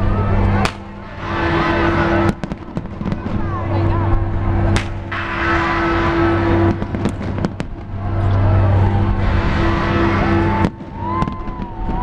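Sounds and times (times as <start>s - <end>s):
continuous rumbling wash: 0.0s - 12.0s
steady low hum: 0.0s - 12.0s
firework bangs: 0.5s - 12.0s.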